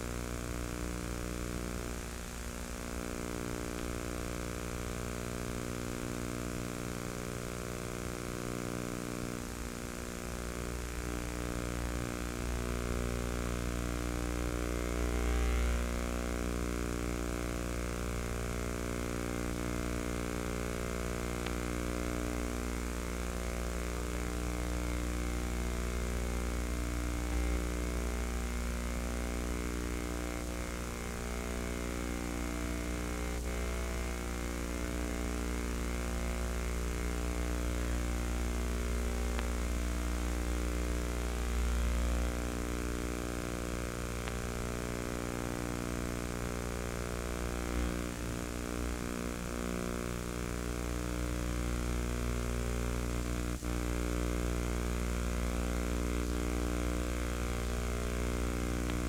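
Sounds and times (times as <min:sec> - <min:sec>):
buzzy hum: 0:00.0 - 0:59.0.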